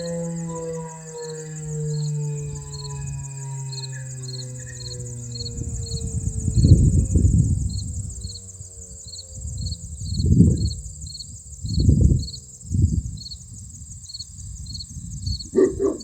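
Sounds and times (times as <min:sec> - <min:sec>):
crickets and insects trilling: 0:00.0 - 0:16.0
faint tornado siren winding down: 0:00.0 - 0:16.0
wind buffeting microphone: 0:00.0 - 0:16.0.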